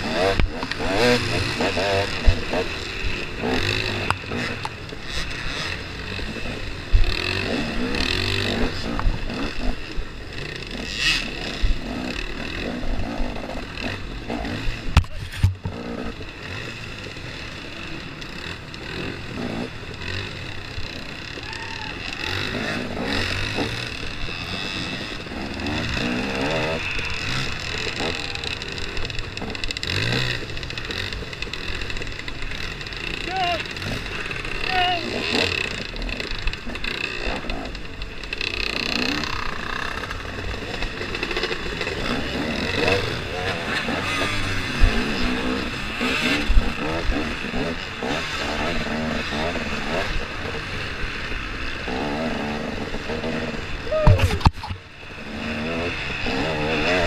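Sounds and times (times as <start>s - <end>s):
dirt bike engine revving: 0.0s - 57.0s
other dirt bikes running: 0.0s - 57.0s.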